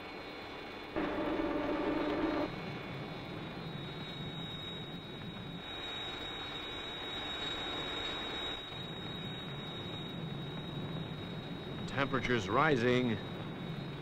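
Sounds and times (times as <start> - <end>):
low rumbling fire drone: 0.0 - 14.0
thin high whine: 0.8 - 14.0.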